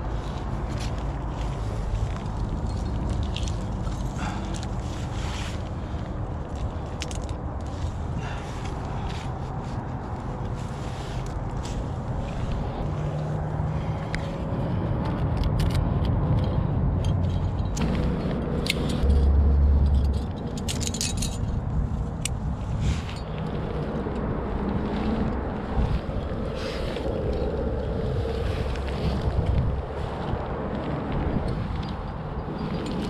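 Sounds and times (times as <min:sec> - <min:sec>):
climbing gear clinking: 0:00.0 - 0:33.0
wind rumbling on microphone: 0:00.0 - 0:33.0.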